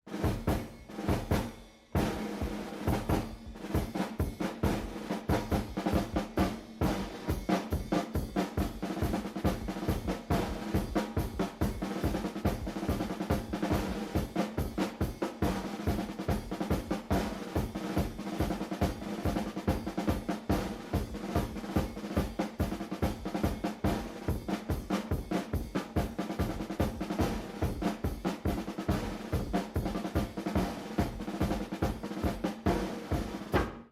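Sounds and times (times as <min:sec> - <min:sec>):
drum kit fast pattern: 0:00.1 - 0:33.9.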